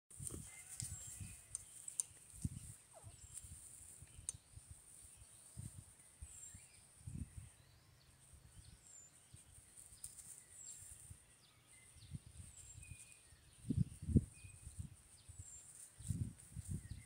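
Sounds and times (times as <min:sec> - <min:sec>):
faint bird chirps: 0:00.4 - 0:17.0.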